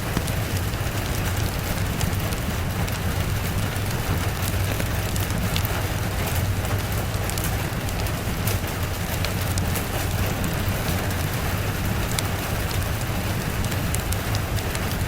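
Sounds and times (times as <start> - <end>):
fireplace crackling and popping: 0.0 - 15.0
steady rain: 0.0 - 15.0
low rumble: 0.5 - 14.7.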